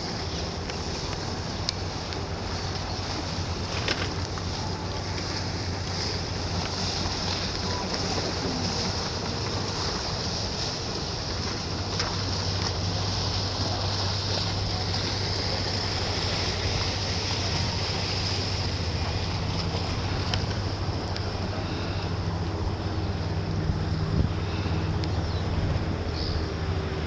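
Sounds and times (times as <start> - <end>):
boat engine hum: 0.0 - 27.0
water rushing: 0.0 - 27.0
wind: 0.0 - 27.0.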